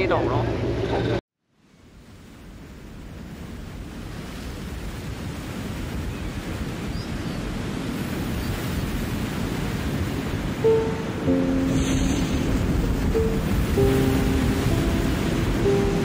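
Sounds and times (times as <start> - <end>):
waves washing against rocky shore: 2.2 - 16.0.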